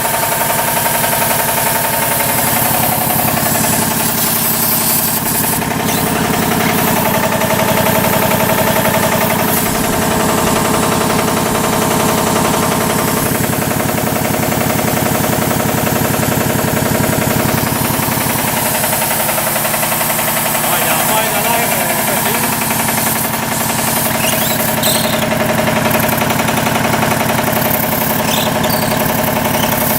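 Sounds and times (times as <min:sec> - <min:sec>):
air compressor knocking: 0:00.0 - 0:29.9.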